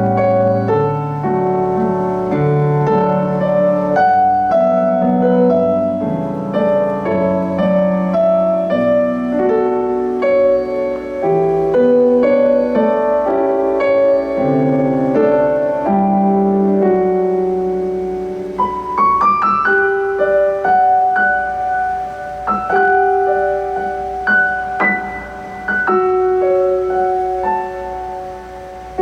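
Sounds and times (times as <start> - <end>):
solo piano melody with chords: 0.0 - 29.0.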